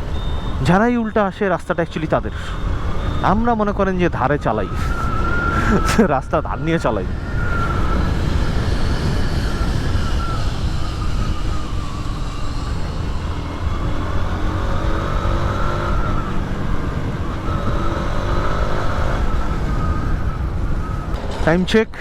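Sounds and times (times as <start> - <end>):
wind and road noise rumble: 0.0 - 22.0.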